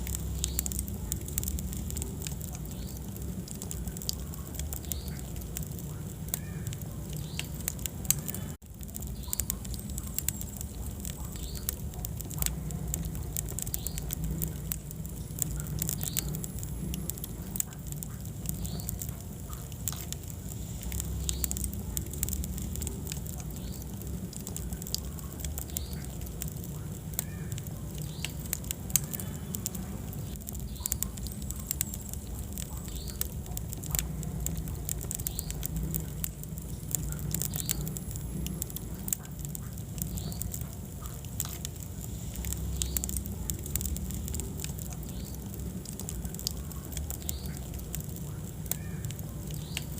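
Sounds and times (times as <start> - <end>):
low rumble of flame: 0.0 - 49.9
wood fire crackling: 0.0 - 49.9.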